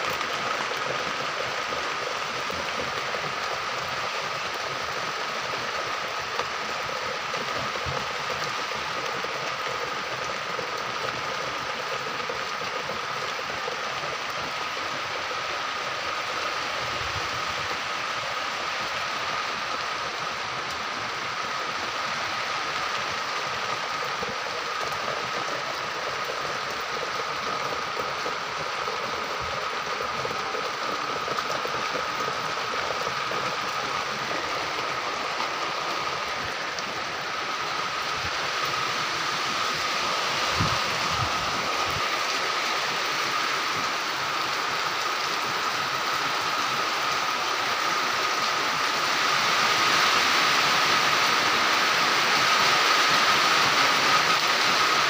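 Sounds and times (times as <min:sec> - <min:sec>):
rain on concrete and puddles: 0:00.0 - 0:55.0.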